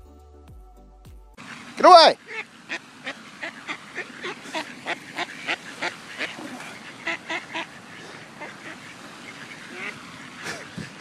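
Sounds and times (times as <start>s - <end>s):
ducks quacking: 1.4s - 11.0s.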